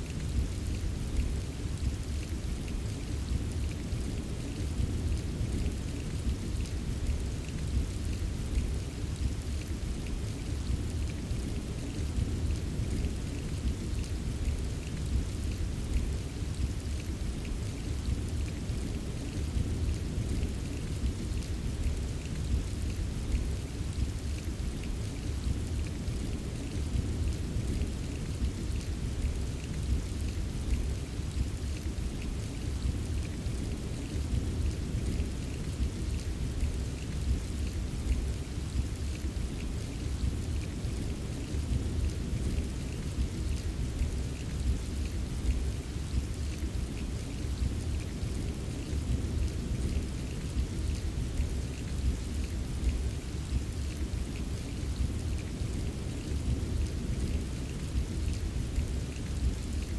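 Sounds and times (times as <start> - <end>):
patter of raindrops: 0.0 - 59.9
rain low rumble: 0.0 - 59.9.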